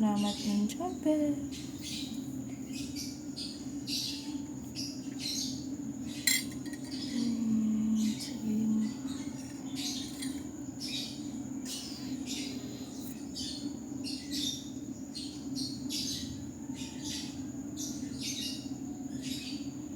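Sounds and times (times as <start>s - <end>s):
birds chirping: 0.0s - 19.7s
steady low hum: 0.0s - 19.9s.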